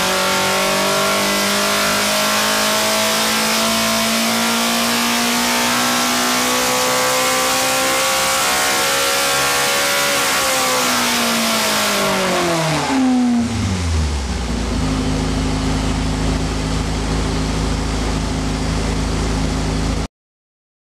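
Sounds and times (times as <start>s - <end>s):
car engine revving and idling: 0.0s - 20.1s.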